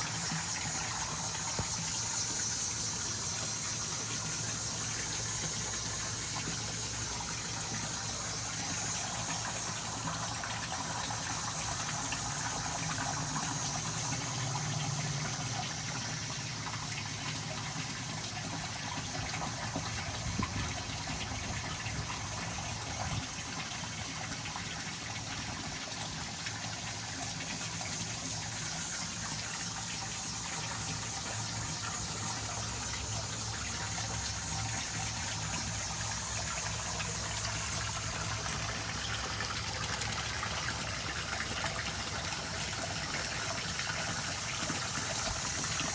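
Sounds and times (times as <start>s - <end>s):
water pouring and splashing: 0.0s - 45.9s.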